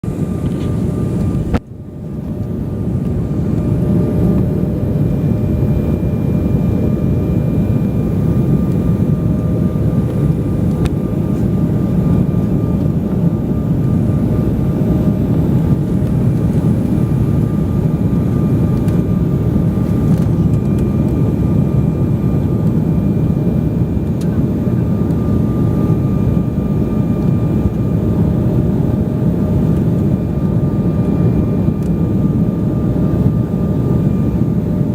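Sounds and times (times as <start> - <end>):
airliner cabin roar: 0.0 - 34.9
faint engine whine: 0.0 - 34.9.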